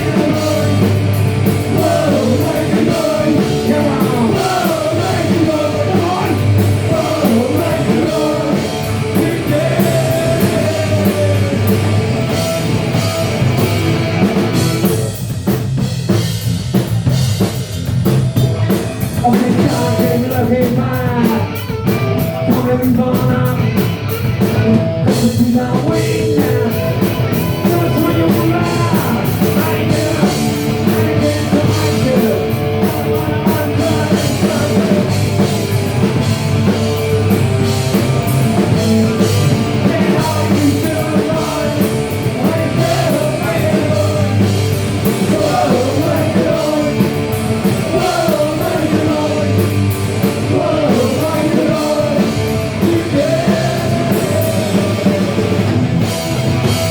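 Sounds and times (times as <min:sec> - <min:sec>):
punk rock band playing live: 0:00.0 - 0:56.9.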